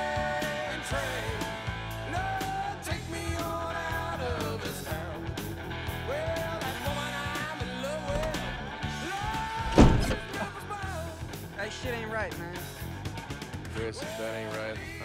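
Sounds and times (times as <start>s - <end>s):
rock guitar: 0.0s - 15.0s.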